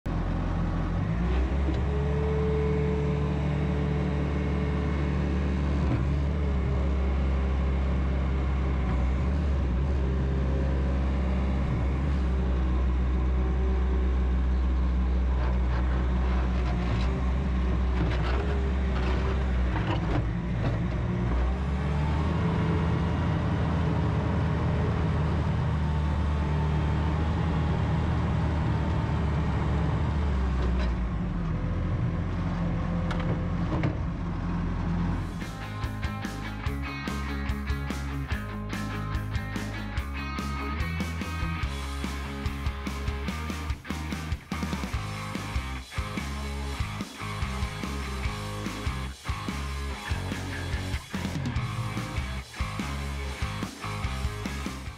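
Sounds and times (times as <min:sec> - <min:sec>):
diesel engine running: 0:00.1 - 0:54.9.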